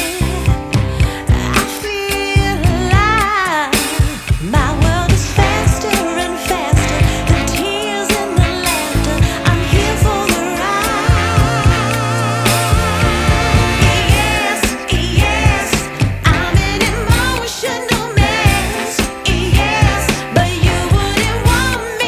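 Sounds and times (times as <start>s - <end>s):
song with sung melody and beat: 0.0s - 22.0s.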